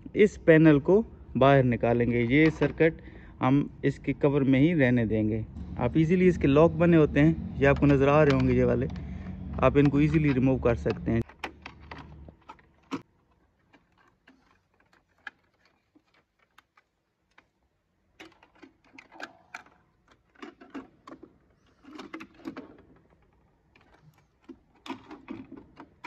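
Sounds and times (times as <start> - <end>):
plastic parts clicking and tapping: 1.8 - 3.1, 5.6 - 26.0.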